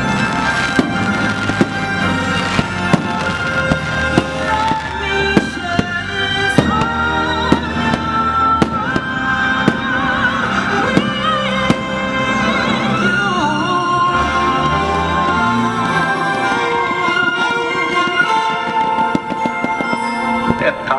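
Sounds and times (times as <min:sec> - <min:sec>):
firework bangs: 0:00.0 - 0:13.6, 0:16.1 - 0:20.9
orchestral music: 0:00.0 - 0:20.9.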